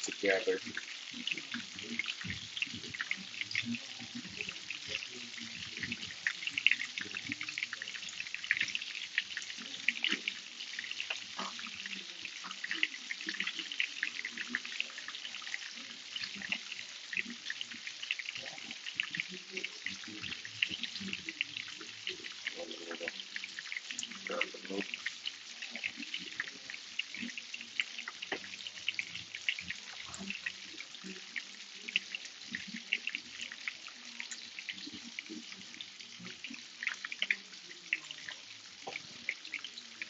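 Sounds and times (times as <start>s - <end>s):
sauce sizzling in a pan: 0.0s - 40.0s.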